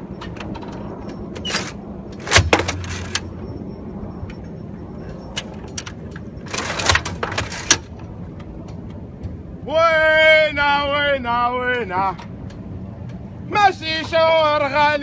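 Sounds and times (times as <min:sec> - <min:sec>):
drone aircraft droning overhead: 0:00.0 - 0:15.0.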